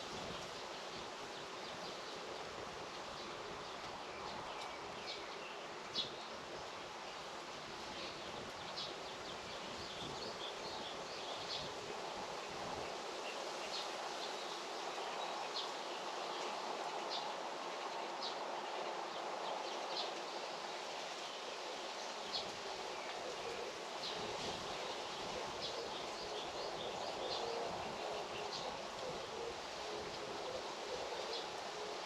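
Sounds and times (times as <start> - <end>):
steady rustling hiss: 0.0 - 32.0.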